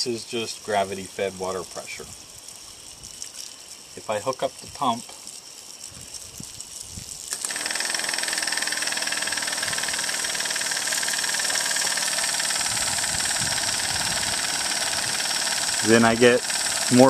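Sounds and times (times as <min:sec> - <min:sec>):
electric pump running: 0:00.0 - 0:17.0
hose nozzle spraying water: 0:00.0 - 0:17.0.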